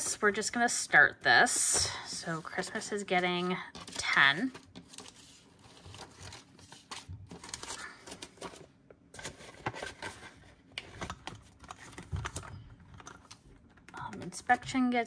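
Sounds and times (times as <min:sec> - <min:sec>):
plastic pages rustling and crinkling: 0:01.4 - 0:13.6.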